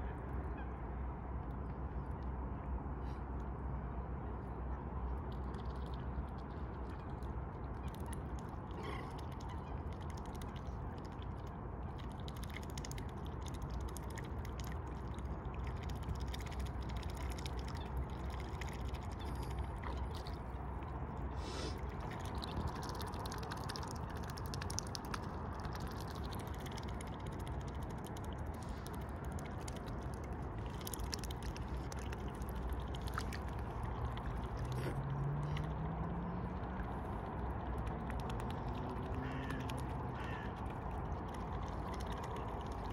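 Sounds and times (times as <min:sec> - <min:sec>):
steady low rumble: 0:00.0 - 0:42.9
soft water splashes: 0:05.0 - 0:42.9.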